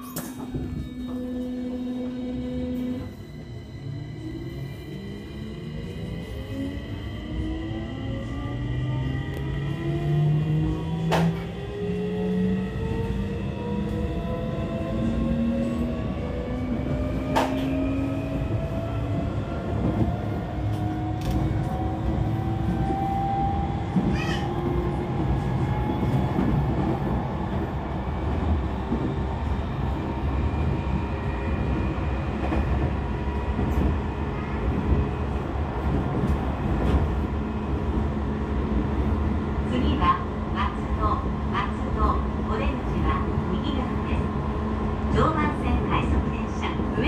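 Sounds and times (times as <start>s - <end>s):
wheels rumbling on rail: 0.0s - 47.0s.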